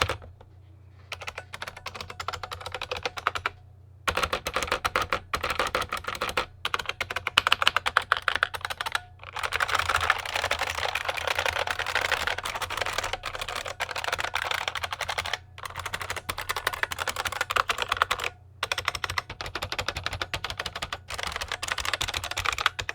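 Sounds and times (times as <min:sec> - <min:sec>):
clicky mechanical keyboard typing: 0:00.0 - 0:00.4, 0:01.1 - 0:22.9.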